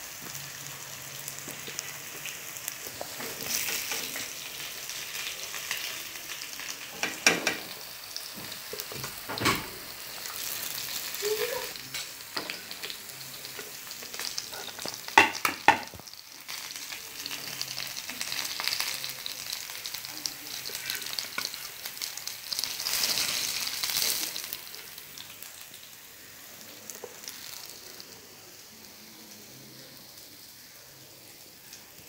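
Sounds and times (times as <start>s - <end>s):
fish sizzling in oil: 0.0s - 32.0s.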